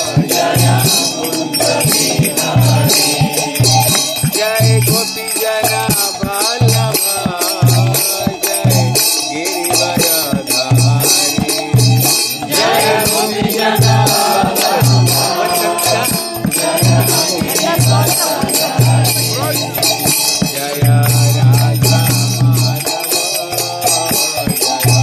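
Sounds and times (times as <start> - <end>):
hand cymbals: 0.0 - 25.0
low drum beats: 0.0 - 25.0
voices chanting a melody: 0.0 - 25.0.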